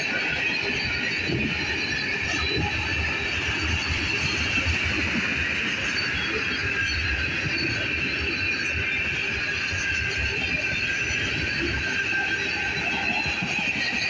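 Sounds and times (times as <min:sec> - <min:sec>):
steel wheels squealing: 0:00.0 - 0:14.0
train wheels rumbling on track: 0:00.0 - 0:14.0.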